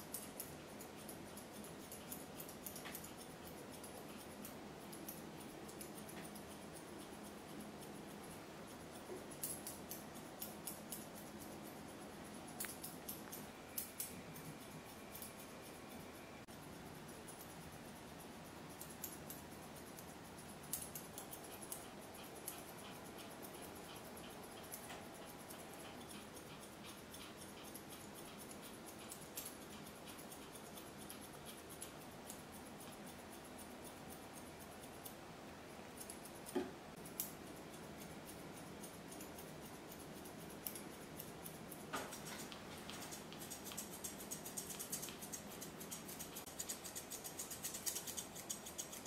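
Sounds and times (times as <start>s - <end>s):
scissors snipping fur: 0.0s - 15.8s, 18.6s - 35.2s, 35.9s - 49.0s.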